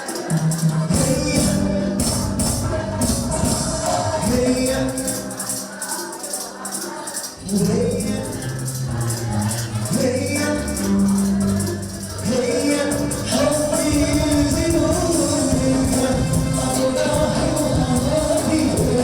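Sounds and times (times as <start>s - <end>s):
jingling hand percussion: 0.0s - 19.0s
people singing: 0.0s - 19.0s.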